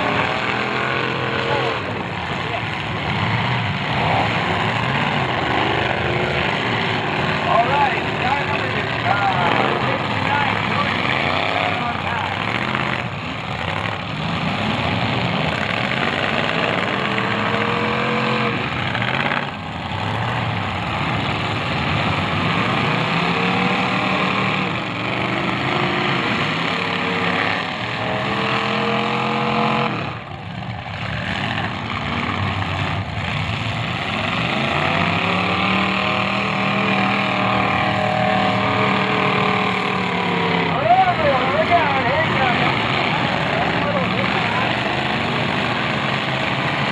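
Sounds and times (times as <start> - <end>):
car engines revving hard: 0.0 - 46.9.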